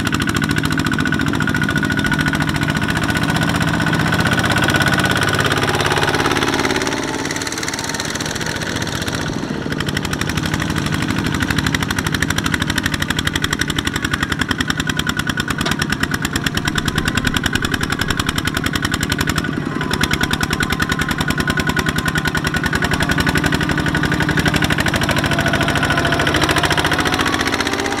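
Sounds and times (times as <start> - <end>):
diesel engine chugging under load: 0.0 - 28.0.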